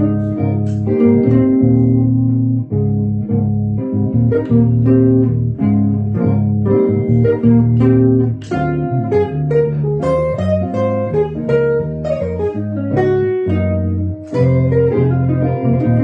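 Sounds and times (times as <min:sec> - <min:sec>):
electric guitar chords and melody: 0:00.0 - 0:16.0
sustained bass notes: 0:00.0 - 0:16.0.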